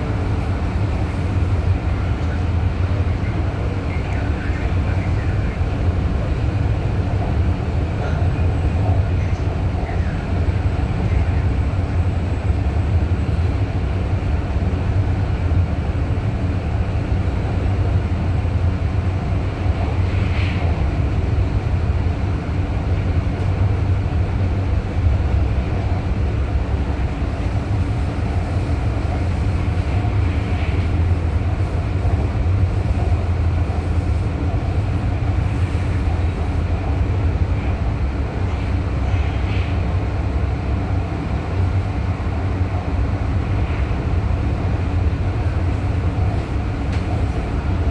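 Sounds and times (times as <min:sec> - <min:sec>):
metro train wheels rumbling: 0:00.0 - 0:47.9.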